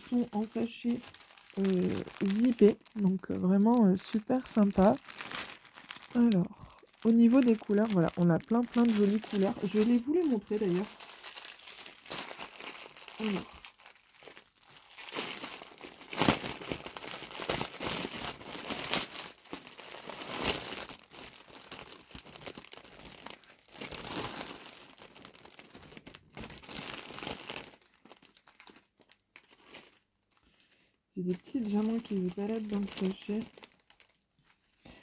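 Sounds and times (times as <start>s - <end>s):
plastic packaging crinkling: 0.0s - 35.0s.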